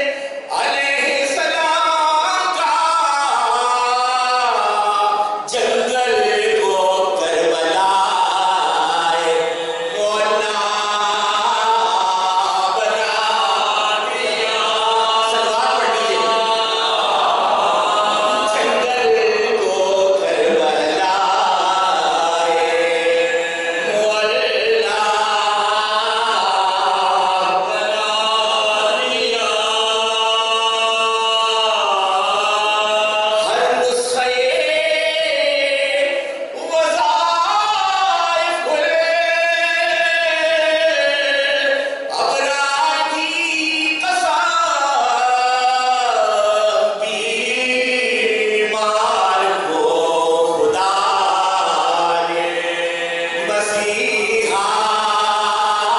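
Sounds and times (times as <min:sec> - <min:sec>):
men singing a slow chant: 0:00.0 - 0:55.9.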